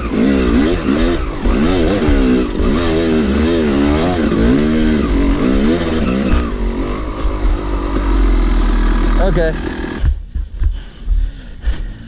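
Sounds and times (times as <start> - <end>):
dirt bike engine revving: 0.0 - 10.3.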